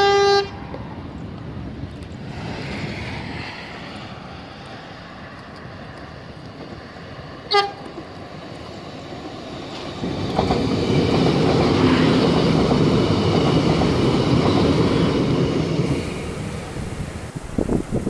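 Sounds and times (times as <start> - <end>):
train wheels rolling on rails: 0.6 - 18.0.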